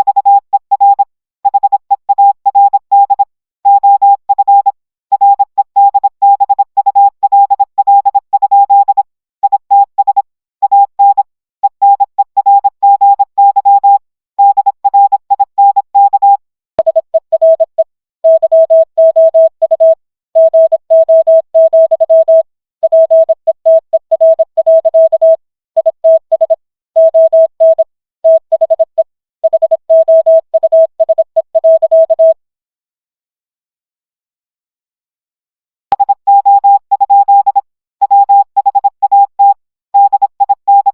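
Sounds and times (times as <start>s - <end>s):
morse code beeps: 0.0s - 32.4s, 35.9s - 40.9s.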